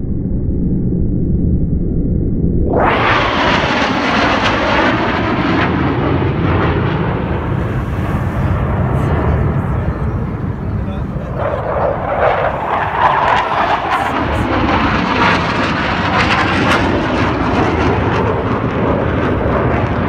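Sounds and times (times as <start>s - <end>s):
jet engine roar: 2.1s - 20.0s.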